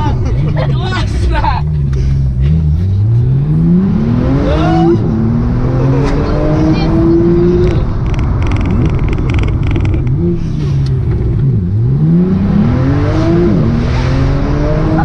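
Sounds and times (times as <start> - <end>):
sports car engine accelerating: 1.4 - 15.0.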